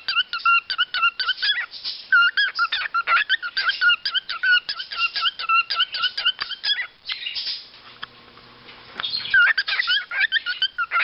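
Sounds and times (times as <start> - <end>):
cockatiels chirping: 0.0 - 7.6, 9.0 - 11.0.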